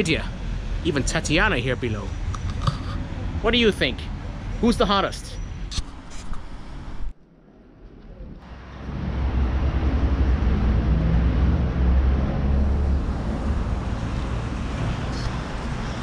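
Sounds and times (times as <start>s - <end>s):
loud low street rumble: 0.0s - 16.0s.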